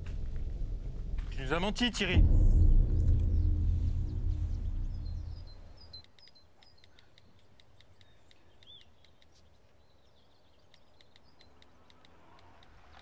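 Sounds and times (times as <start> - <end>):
small birds chirping: 2.2 - 13.0.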